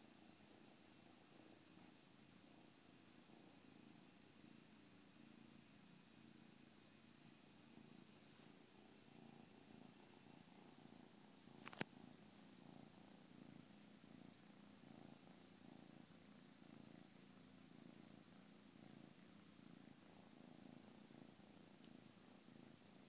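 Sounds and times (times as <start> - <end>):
kitten purring: 0.0 - 23.0.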